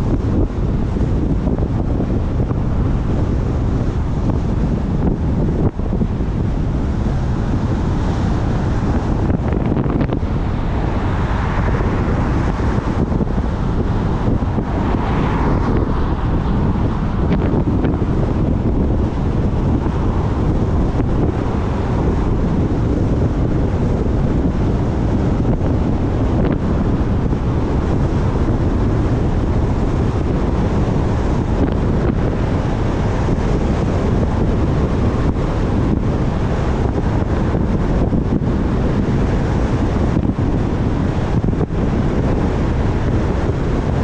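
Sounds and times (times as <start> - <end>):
car road noise: 0.0 - 44.0
wind buffeting microphone: 0.0 - 44.0.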